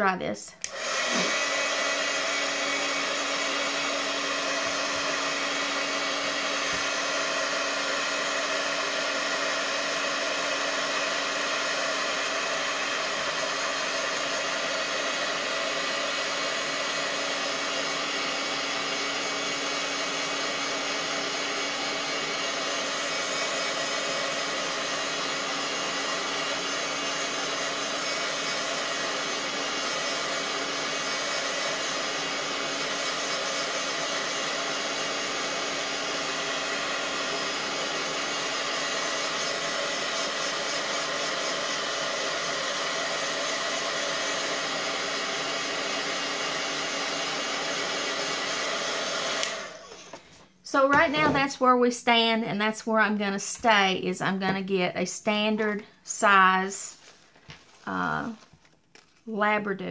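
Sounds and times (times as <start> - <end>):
heat tool blowing air: 0.6 - 51.8.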